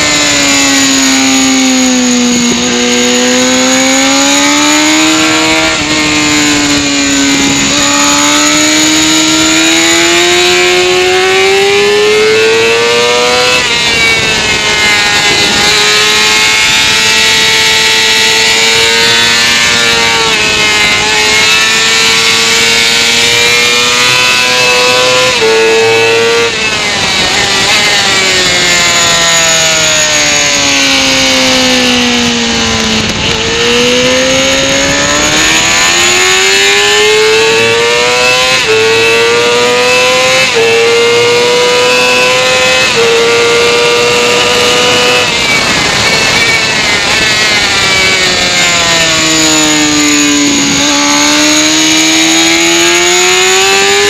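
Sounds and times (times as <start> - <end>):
motorcycle engine at high revs: 0.0 - 54.0
wind noise: 0.0 - 54.0.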